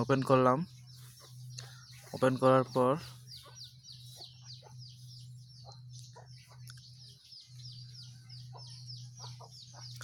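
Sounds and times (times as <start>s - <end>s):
clucking bird calls: 0.0s - 10.0s
faint high bird calls: 0.0s - 10.0s
steady low hum: 0.0s - 10.0s.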